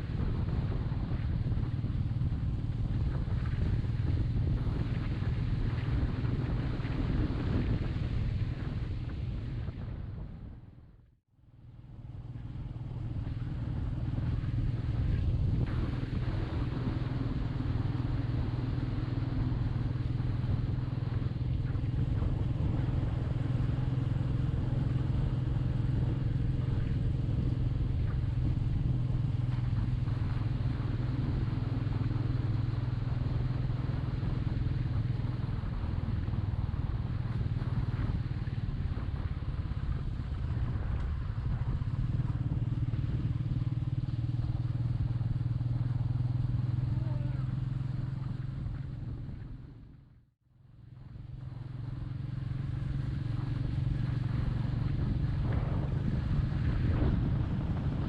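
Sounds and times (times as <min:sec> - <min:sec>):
motorcycle engine hum: 0:00.0 - 0:58.0
road and air noise: 0:00.0 - 0:58.0.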